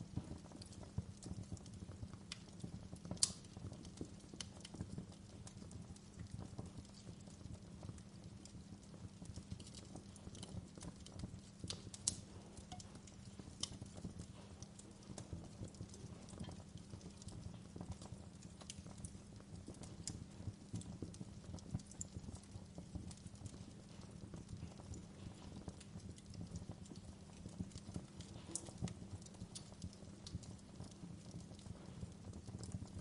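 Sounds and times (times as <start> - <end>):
low steady rumble: 0.0 - 33.0
wood fire crackling: 0.0 - 33.0.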